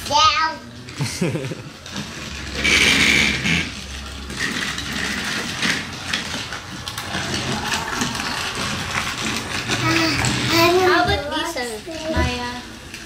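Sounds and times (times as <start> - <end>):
toy train motor whirring: 0.0 - 13.0
toy trains rattling on plastic track: 0.0 - 13.0.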